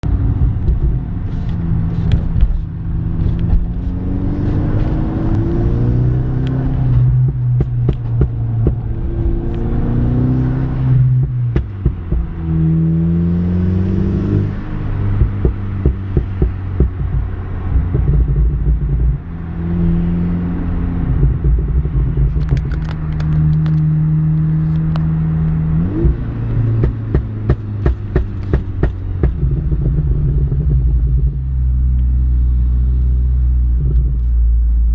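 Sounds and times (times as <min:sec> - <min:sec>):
car engine accelerating: 0:00.0 - 0:34.9
exhaust pops and crackles: 0:00.0 - 0:34.9.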